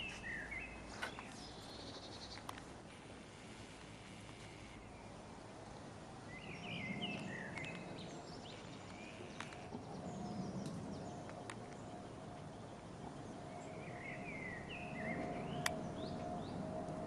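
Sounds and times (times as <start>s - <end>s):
bird chirping: 0.0s - 2.6s, 4.0s - 16.7s
outdoor background noise: 0.0s - 17.0s.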